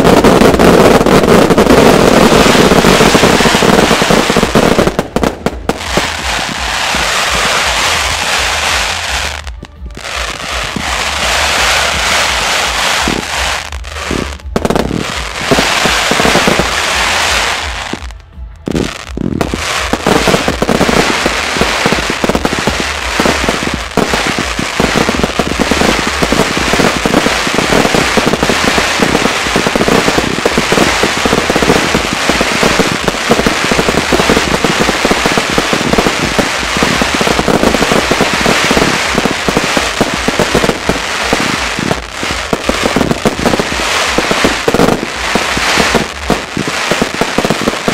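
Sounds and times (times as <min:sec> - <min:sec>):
fireworks popping and banging: 0:00.0 - 0:47.9.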